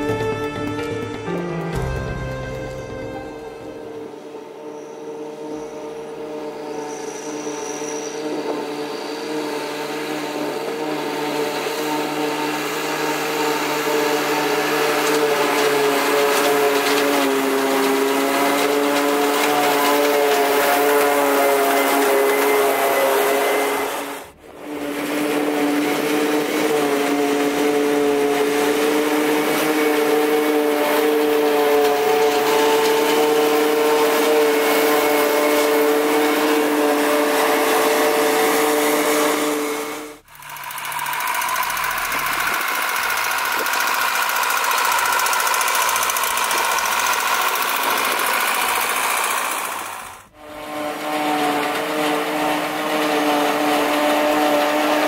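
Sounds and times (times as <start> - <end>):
tractor engine running: 0.0 - 4.2, 9.5 - 55.0
high engine whine: 0.0 - 55.0.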